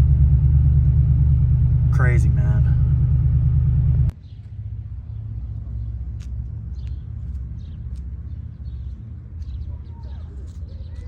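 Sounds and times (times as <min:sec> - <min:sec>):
truck rumbling: 0:00.0 - 0:11.0.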